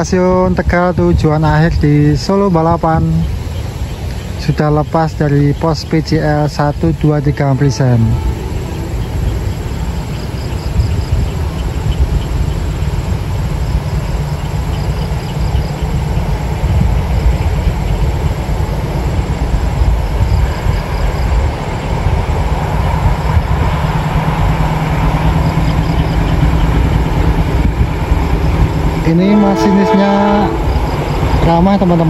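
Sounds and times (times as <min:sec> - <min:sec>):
distant train rumble: 0:00.0 - 0:32.0
insects chirping in trills: 0:00.0 - 0:32.0
steady hum: 0:00.0 - 0:32.0.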